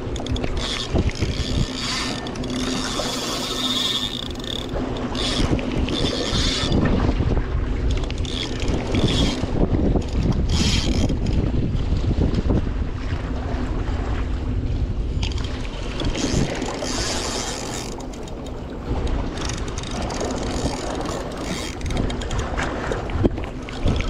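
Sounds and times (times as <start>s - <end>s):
fishing reel whirring and clicking: 0.0s - 7.2s, 7.8s - 11.7s, 15.2s - 24.0s
wind buffeting microphone: 0.0s - 24.0s.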